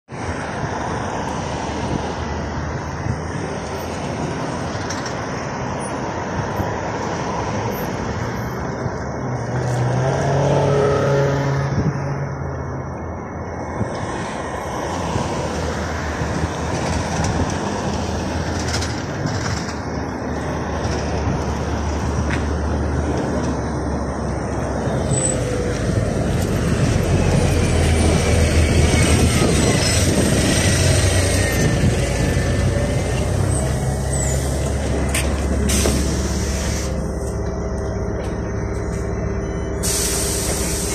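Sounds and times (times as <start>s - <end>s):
road traffic passing: 0.0s - 40.9s
bus engine hum: 0.1s - 40.9s.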